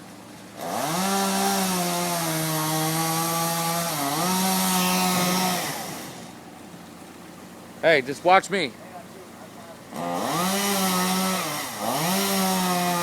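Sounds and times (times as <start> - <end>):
chainsaw revving: 0.5 - 13.0.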